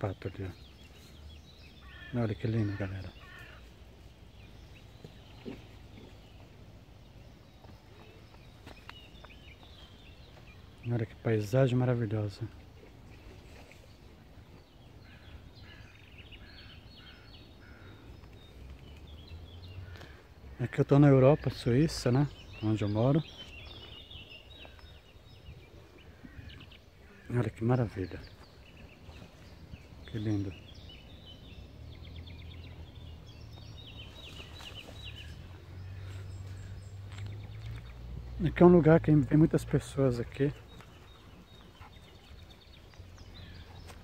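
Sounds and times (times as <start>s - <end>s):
faint low outdoor rumble: 0.0s - 44.0s
songbird chirping: 0.0s - 44.0s.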